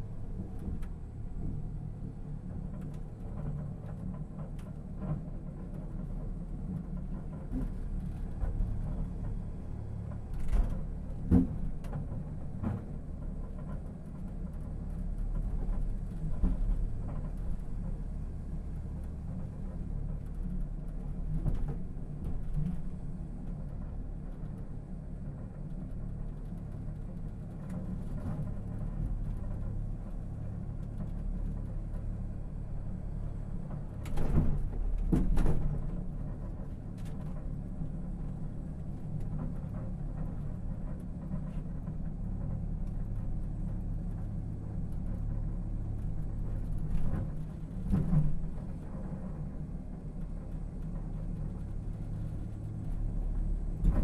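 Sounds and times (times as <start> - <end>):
cable car rumbling on rail track: 0.0 - 54.0.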